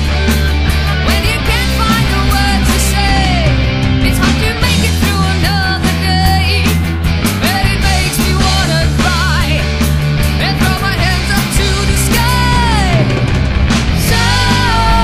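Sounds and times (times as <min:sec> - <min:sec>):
heavy metal band playing: 0:00.0 - 0:15.0
melodic guitar lead line: 0:00.0 - 0:15.0.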